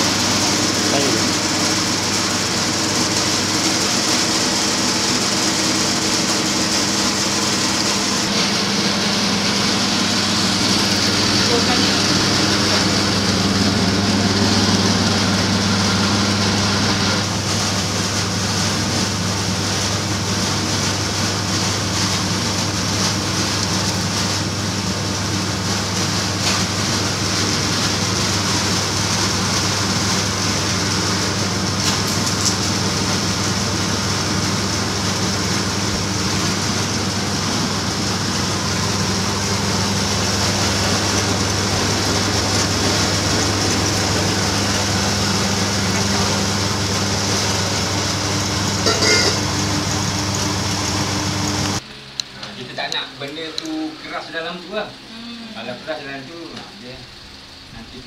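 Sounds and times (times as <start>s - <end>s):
machine humming and hissing: 0.0s - 58.0s.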